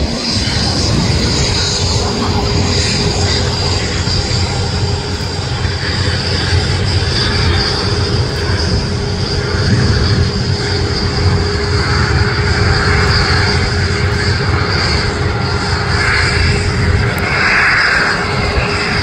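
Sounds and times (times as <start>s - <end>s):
jet engines rumbling with hiss: 0.0s - 19.0s.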